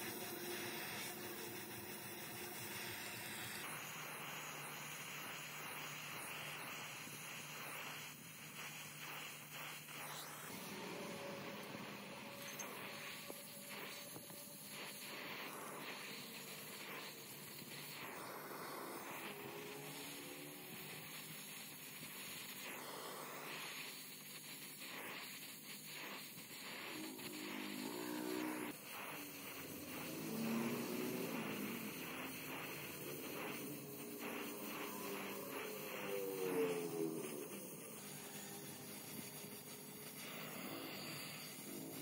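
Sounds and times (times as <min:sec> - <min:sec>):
torch flame hissing: 0:00.0 - 0:42.0.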